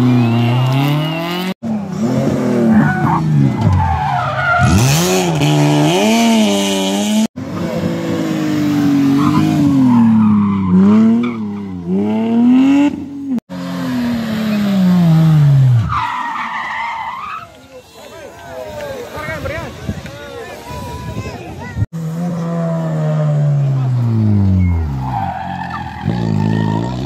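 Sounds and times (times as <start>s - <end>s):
rally car engines revving: 0.0s - 17.0s, 21.9s - 27.0s.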